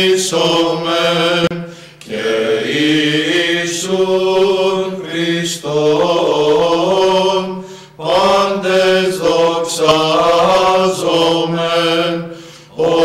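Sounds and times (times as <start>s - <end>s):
voices chanting a hymn: 0.0s - 13.0s.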